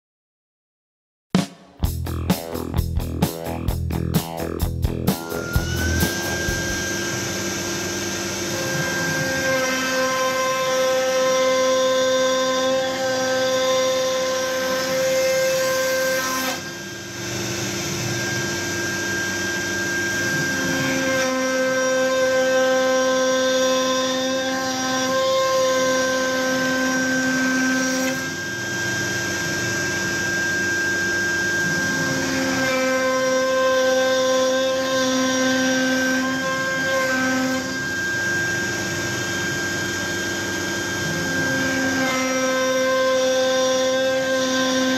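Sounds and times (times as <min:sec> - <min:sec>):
router cutting wood board: 0:04.2 - 0:44.9
router spindle whining: 0:05.0 - 0:44.9.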